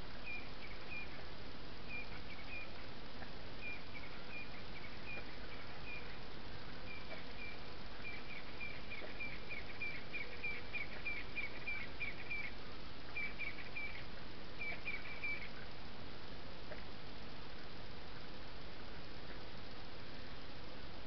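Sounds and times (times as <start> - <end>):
microphone hiss: 0.0 - 21.0.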